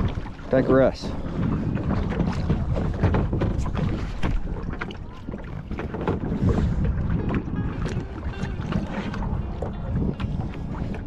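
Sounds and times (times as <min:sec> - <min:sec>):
water splashing around kayak: 0:00.0 - 0:11.0
wind rumbling on microphone: 0:00.0 - 0:11.0.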